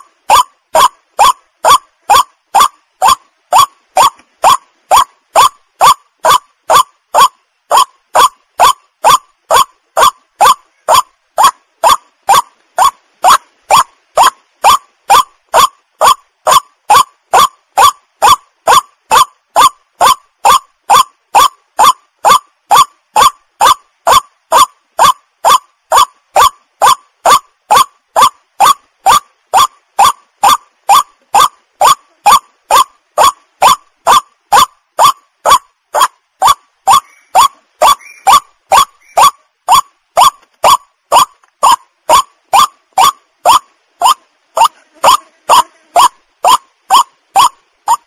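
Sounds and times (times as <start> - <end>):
waterhen calling: 0.0 - 48.0.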